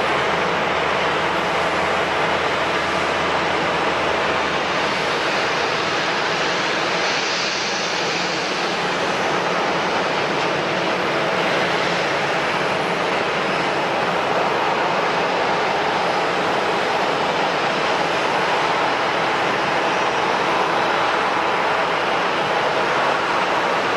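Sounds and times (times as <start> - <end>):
jet engines running: 0.0 - 23.9.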